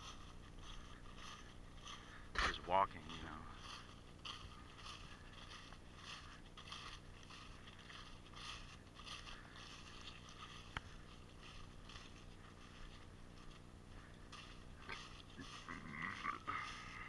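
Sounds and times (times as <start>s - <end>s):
footsteps crunching dry leaves: 0.0s - 17.0s.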